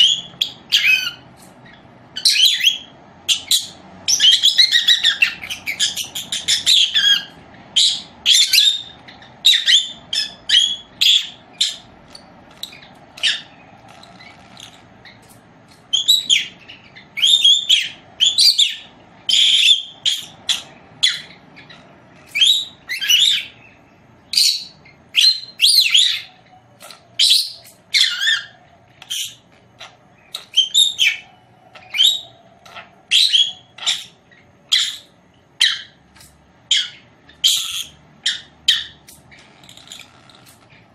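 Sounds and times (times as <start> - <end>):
lovebird chirping: 0.0 - 40.9.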